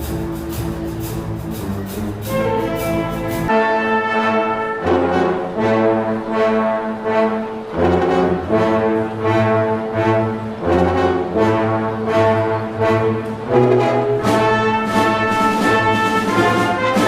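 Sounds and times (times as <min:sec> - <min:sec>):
orchestral brass playing held chords: 0:00.0 - 0:17.0.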